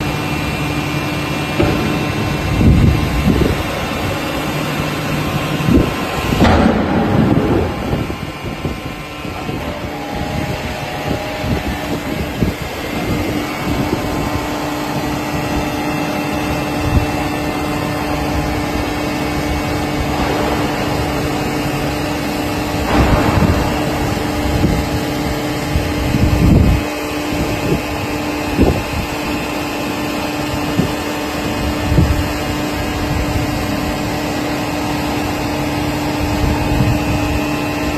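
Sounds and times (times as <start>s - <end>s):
baler machine humming: 0.0s - 37.9s
loud metallic knocks and bangs: 0.0s - 37.9s.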